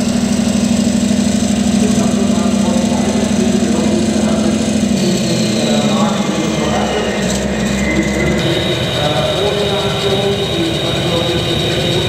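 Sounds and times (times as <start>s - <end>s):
toy tank engine-like drone: 1.7s - 12.0s
faint high whine falling: 1.8s - 12.0s.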